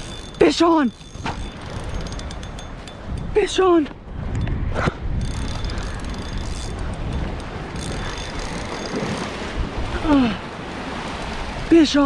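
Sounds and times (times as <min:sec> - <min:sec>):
wind on microphone: 0:00.0 - 0:11.8
shoreline surf: 0:00.0 - 0:12.0.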